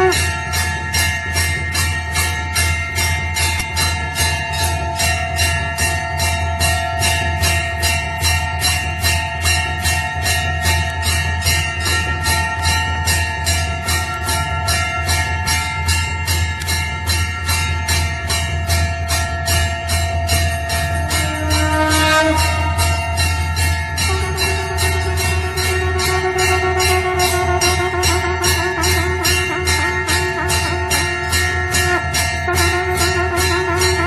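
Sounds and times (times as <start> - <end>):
temple bell rung rapidly: 0.0 - 34.0.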